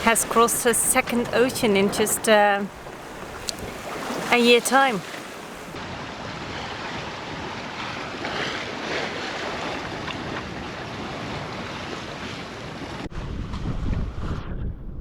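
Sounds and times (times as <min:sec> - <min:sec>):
wind buffeting microphone: 0:00.0 - 0:07.6, 0:09.6 - 0:15.0
waves and rushing sea water: 0:00.0 - 0:13.1.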